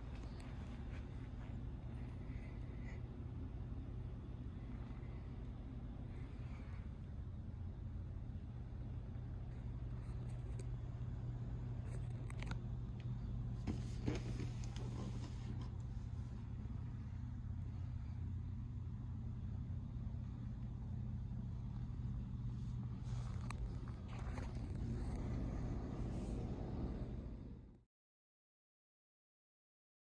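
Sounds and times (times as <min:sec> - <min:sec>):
low background hum: 0:00.0 - 0:27.9.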